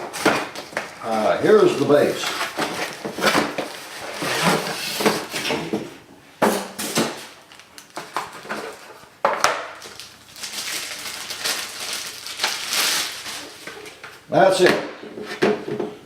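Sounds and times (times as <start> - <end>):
packaging rustling and crinkling: 0.0 - 5.9, 6.6 - 14.3.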